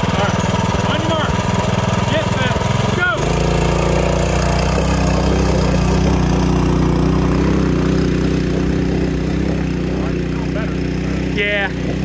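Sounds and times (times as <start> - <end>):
small motorbike engine under load: 0.0 - 12.0.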